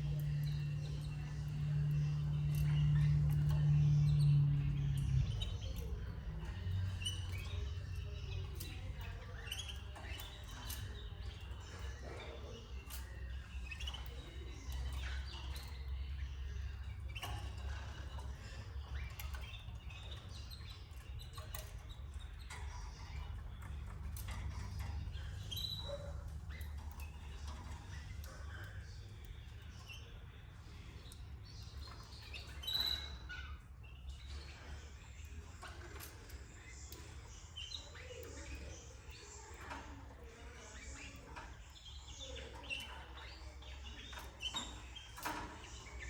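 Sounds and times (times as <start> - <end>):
steady low hum: 0.0 - 42.6
canaries chirping: 0.0 - 46.0.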